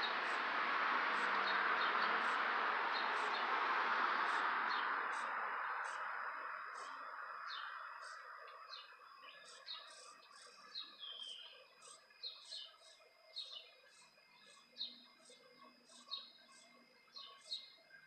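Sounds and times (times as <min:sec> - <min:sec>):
small birds chirping: 0:00.0 - 0:00.5, 0:01.2 - 0:03.6, 0:04.2 - 0:18.0.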